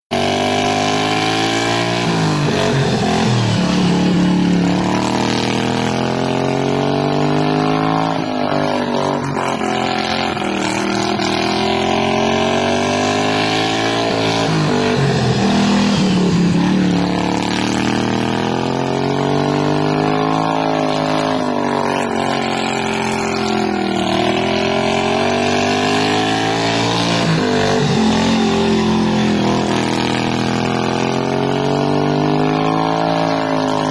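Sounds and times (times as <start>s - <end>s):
racing lawnmower engines: 0.1s - 33.9s.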